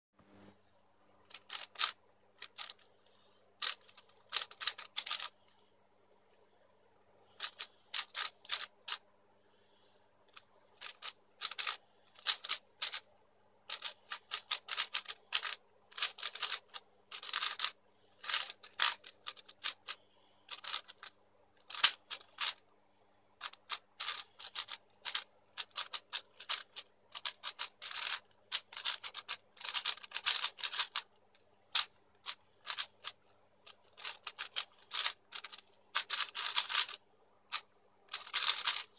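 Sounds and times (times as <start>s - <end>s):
plastic puzzle cube clacking: 1.2s - 5.4s, 7.4s - 9.0s, 10.3s - 13.1s, 13.7s - 22.6s, 23.4s - 38.9s.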